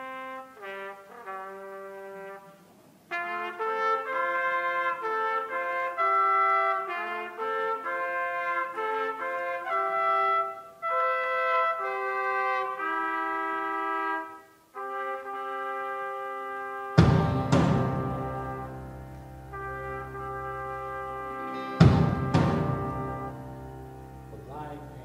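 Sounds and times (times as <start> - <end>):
trumpets playing in harmony: 0.0 - 25.0.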